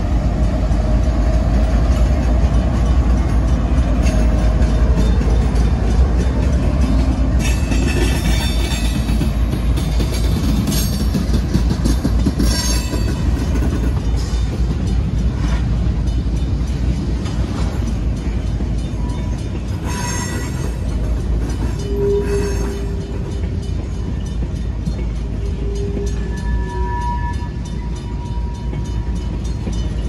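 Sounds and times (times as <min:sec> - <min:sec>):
diesel locomotives rumbling: 0:00.0 - 0:30.0.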